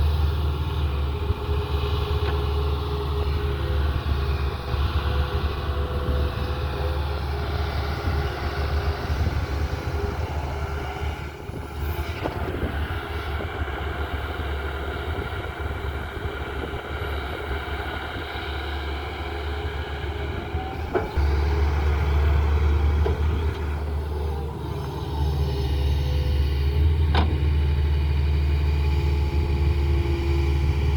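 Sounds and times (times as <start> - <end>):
excavator diesel engine running: 0.0 - 30.9.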